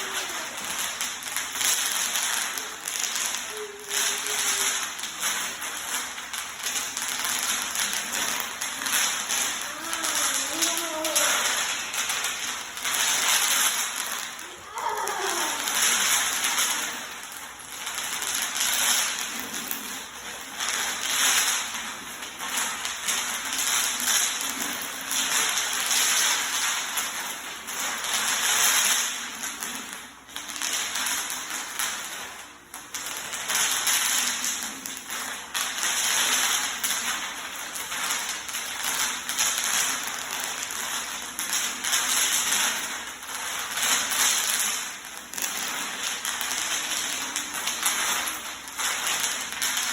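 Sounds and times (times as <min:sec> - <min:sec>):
bubble wrap popping: 0:00.0 - 0:31.8, 0:32.4 - 0:49.9.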